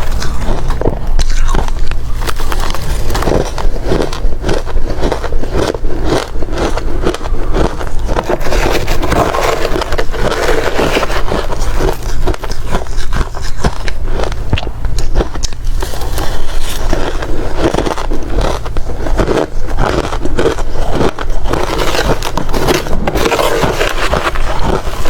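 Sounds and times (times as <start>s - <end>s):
ice crunching between teeth: 0.0s - 25.0s.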